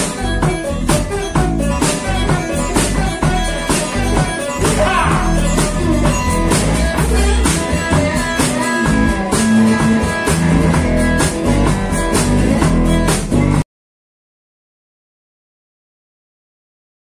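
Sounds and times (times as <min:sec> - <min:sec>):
bass guitar: 0:00.0 - 0:13.6
drum and cymbal hits: 0:00.0 - 0:13.6
slide guitar: 0:00.0 - 0:13.6.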